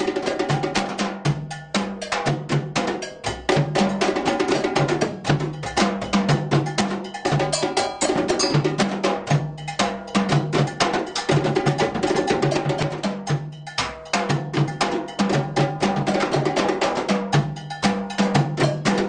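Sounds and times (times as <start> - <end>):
cowbell-like bell pattern: 0.0 - 19.0
hand drums playing fast rhythm: 0.0 - 19.0.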